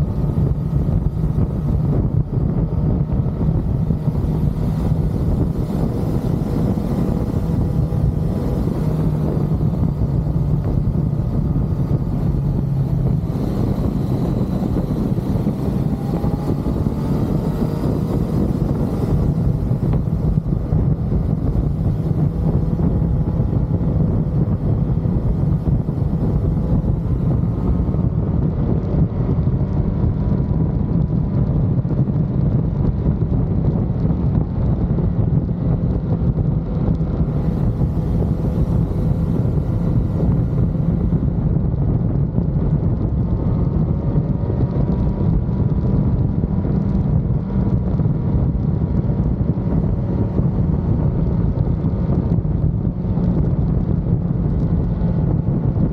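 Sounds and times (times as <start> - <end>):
motorcycle engine cruising: 0.0 - 55.9
wind buffeting microphone: 0.0 - 55.9.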